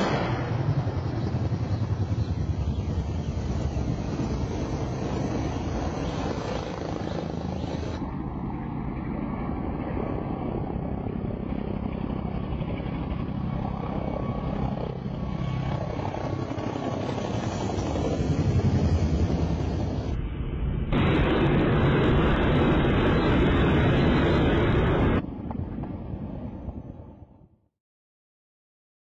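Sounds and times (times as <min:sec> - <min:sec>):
helicopter rotor beating: 0:00.0 - 0:20.2, 0:21.0 - 0:27.2
turbine engine whine: 0:00.0 - 0:27.5.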